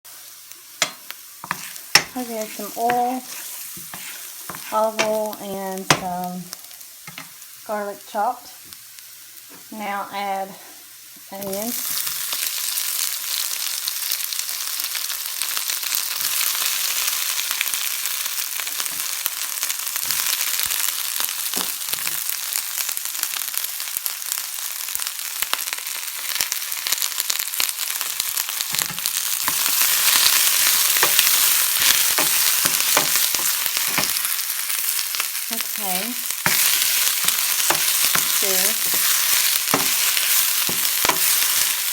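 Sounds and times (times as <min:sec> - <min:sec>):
onion frying in oil: 0:00.1 - 0:41.9.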